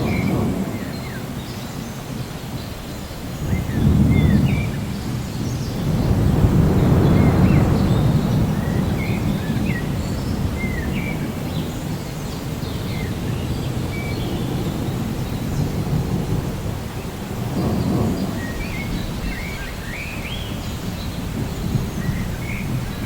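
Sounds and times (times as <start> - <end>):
birds chirping: 0.0 - 23.0
steady rain: 0.0 - 23.0
thunder rolling: 0.0 - 23.0.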